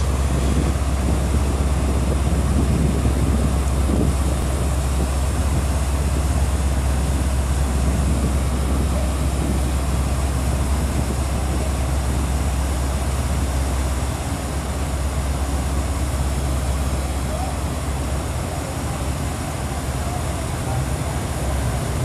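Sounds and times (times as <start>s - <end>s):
ferry diesel engines droning: 0.0s - 22.0s
waterjets churning water: 0.0s - 22.0s.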